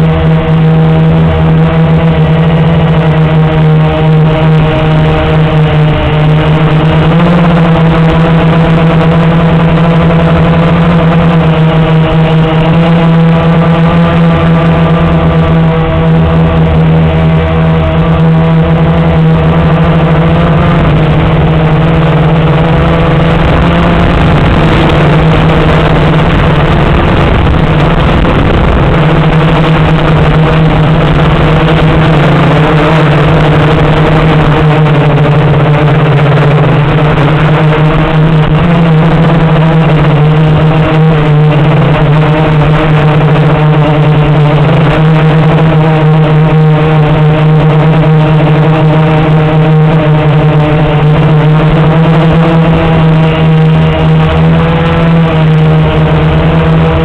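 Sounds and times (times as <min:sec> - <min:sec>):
quadcopter motors buzzing: 0:00.0 - 0:57.0.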